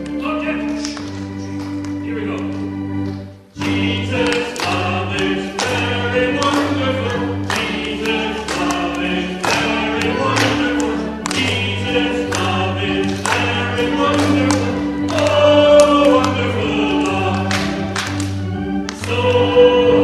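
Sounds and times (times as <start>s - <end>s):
instrumental accompaniment with beat: 0.0s - 20.0s
group of voices singing: 3.6s - 20.0s.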